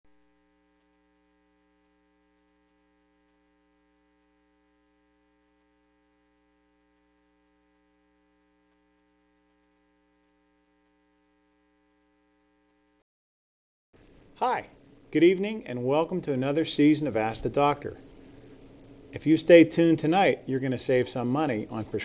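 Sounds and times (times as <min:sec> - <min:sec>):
faint electrical hum: 0:00.1 - 0:13.0, 0:14.0 - 0:22.0
light hiss: 0:00.1 - 0:13.0, 0:14.0 - 0:22.0.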